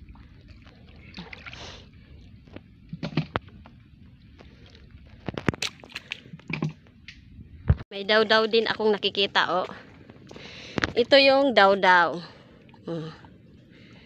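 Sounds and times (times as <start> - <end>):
muddy water sloshing: 0.0 - 7.2, 8.0 - 14.0.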